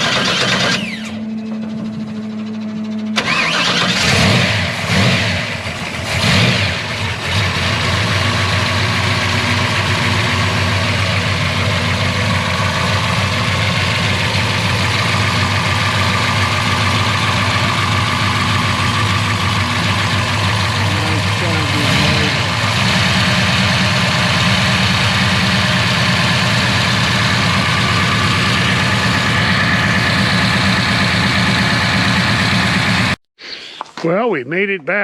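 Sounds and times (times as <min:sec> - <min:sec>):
car engine revving and idling: 0:00.0 - 0:33.2.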